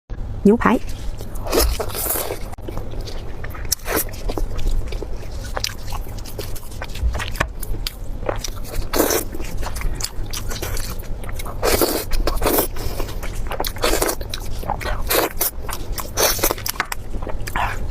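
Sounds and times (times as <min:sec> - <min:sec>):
biting and chewing food: 0:00.8 - 0:17.9.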